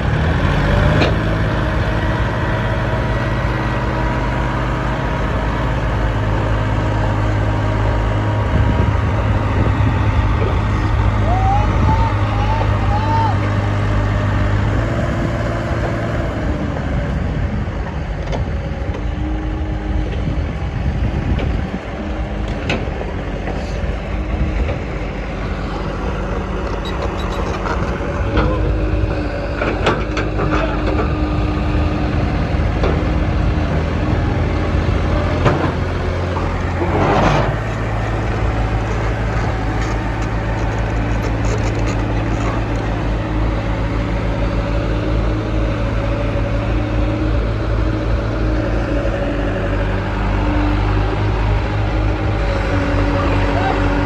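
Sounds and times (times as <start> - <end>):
heavy diesel engine machinery: 0.0 - 54.0.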